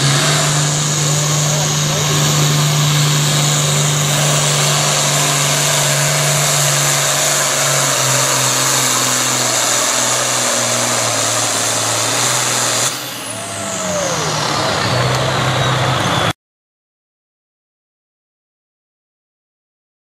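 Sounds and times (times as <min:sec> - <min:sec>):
tractor diesel engine under load: 0:00.0 - 0:16.4.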